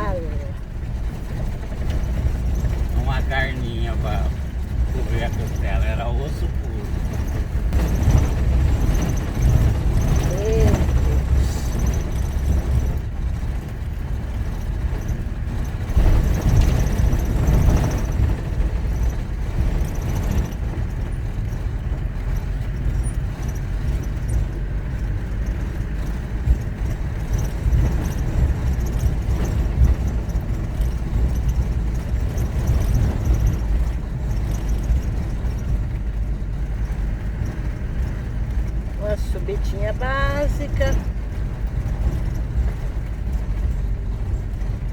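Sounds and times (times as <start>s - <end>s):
tyres rumbling on corrugated dirt road: 0.0s - 44.9s.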